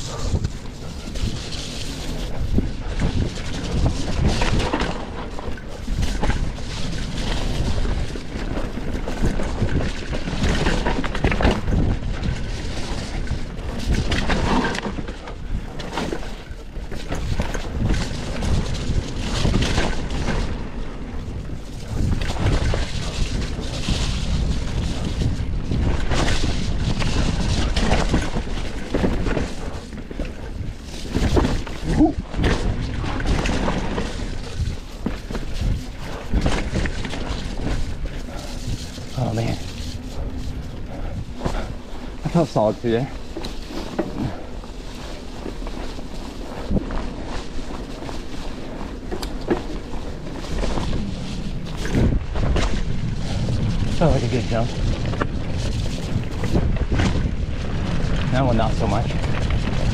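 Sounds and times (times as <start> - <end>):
bike rattling over bumps: 0.0 - 59.9
bike tyres on dirt trail: 0.0 - 59.9.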